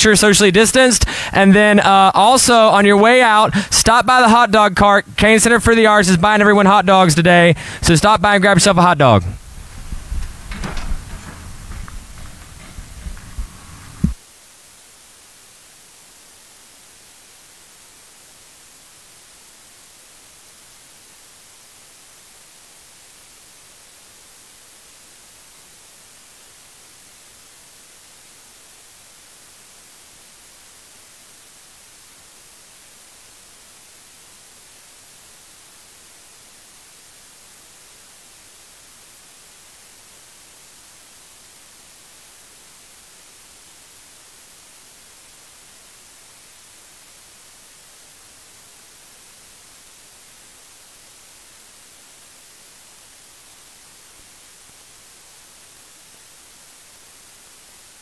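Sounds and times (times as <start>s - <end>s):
static hiss: 0.0s - 58.0s.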